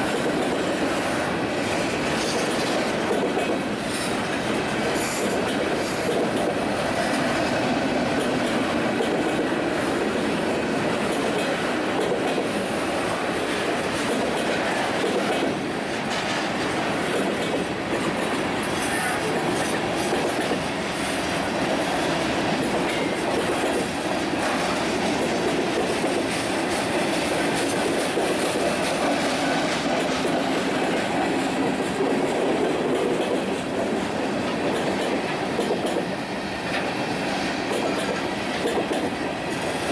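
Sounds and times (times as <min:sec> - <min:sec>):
clickety-clack over rail joints: 0:00.0 - 0:39.9
train wheels on rails: 0:00.0 - 0:39.9.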